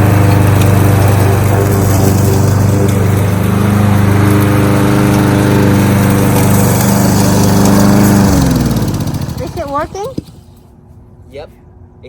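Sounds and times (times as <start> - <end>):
engine winding down: 0.0 - 10.5
lawnmower engine running: 0.0 - 10.9.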